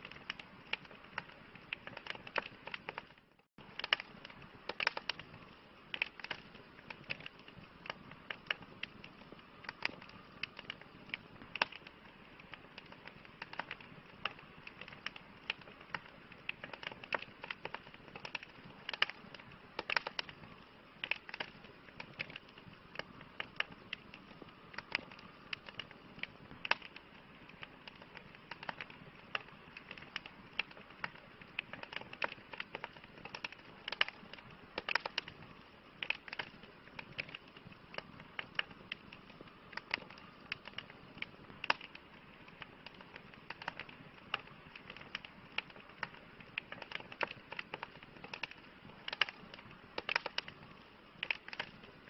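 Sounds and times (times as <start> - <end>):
campfire crackling and popping: 0.0 - 52.0
soft hiss of fire: 0.0 - 52.0.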